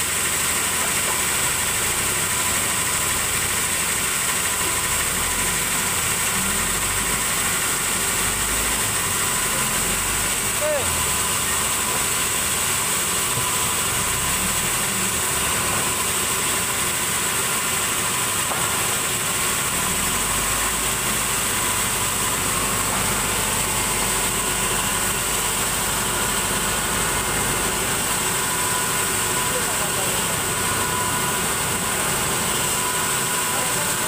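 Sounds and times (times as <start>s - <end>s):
band saw running with hiss: 0.0s - 34.0s.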